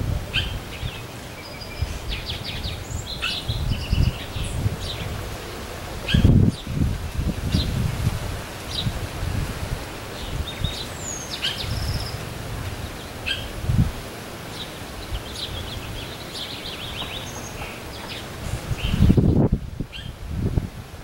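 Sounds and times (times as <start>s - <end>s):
songbirds chirping: 0.0s - 20.2s
low gusty rumble: 0.0s - 21.0s.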